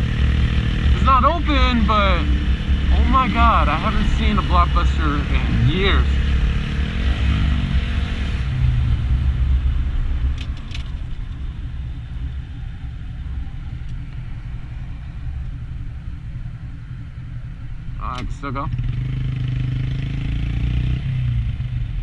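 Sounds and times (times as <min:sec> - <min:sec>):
motorcycle engine rumbling: 0:00.0 - 0:22.0.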